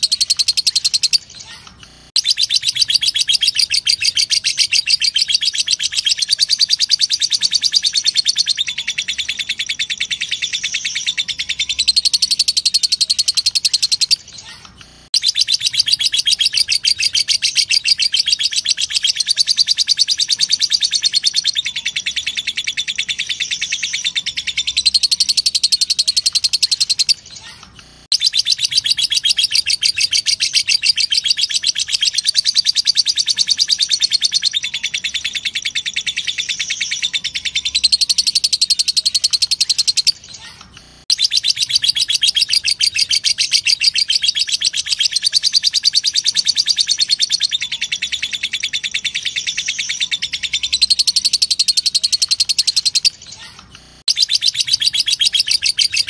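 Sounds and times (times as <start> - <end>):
lovebird rapid chatter: 0.0 - 56.0.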